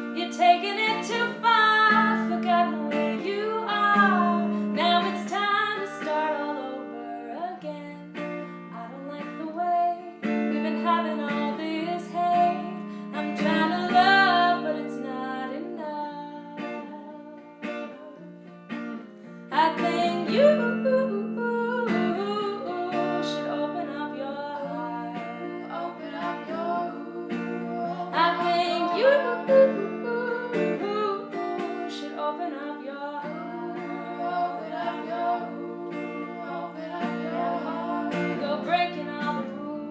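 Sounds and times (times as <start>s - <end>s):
woman singing: 0.0s - 18.4s, 19.5s - 39.9s
acoustic guitar: 0.0s - 39.9s.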